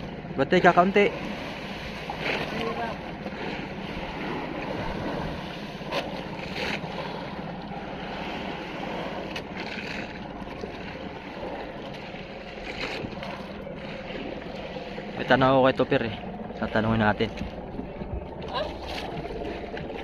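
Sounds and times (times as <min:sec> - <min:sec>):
boat engine humming: 0:00.0 - 0:20.0
water rushing along hull: 0:00.0 - 0:20.0.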